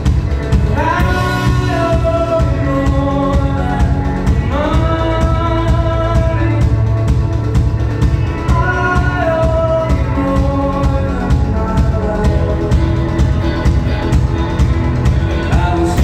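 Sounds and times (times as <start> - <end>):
drum kit beat: 0.0 - 16.0
electric guitars: 0.0 - 16.0
person singing: 0.4 - 14.2, 15.1 - 16.0.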